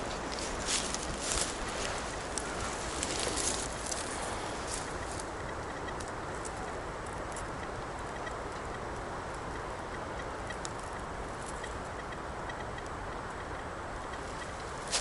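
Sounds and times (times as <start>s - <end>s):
faint ticks: 0.0s - 15.0s
wind rushing through forest: 0.0s - 15.0s.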